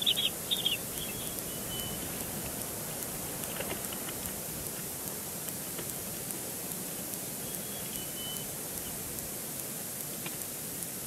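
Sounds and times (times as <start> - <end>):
faint ticks: 0.0 - 11.0
open-air hiss: 0.0 - 11.0.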